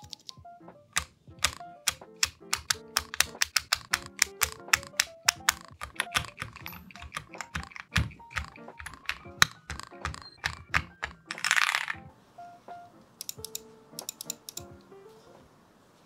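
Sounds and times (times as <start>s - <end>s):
mechanical keyboard keystrokes: 0.0s - 0.4s, 1.0s - 12.0s, 13.2s - 14.7s
light background music: 0.0s - 15.8s.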